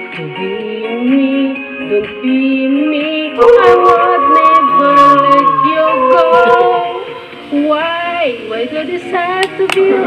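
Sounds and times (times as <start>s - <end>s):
woman singing slow song: 0.0s - 10.0s.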